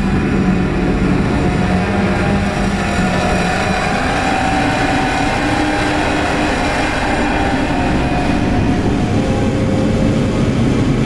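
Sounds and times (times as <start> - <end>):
metallic spring rumble: 0.0 - 11.0.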